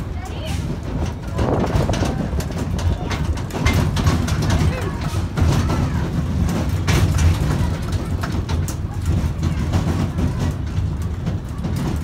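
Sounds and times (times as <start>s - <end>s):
mini train rumbling: 0.0s - 12.0s
clicks and rattles: 0.6s - 12.0s.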